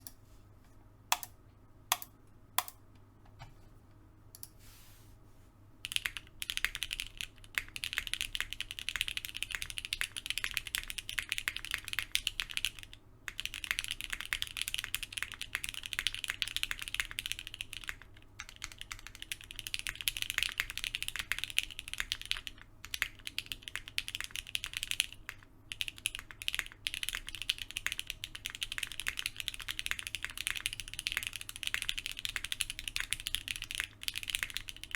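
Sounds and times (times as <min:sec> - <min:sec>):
mechanical keyboard typing: 0:01.1 - 0:01.3, 0:01.9 - 0:02.8, 0:05.8 - 0:34.9.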